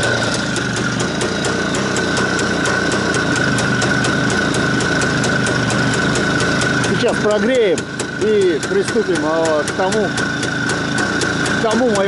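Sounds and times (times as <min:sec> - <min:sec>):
sharp ticks: 0:00.0 - 0:12.0
two-stroke engine running: 0:00.0 - 0:12.0.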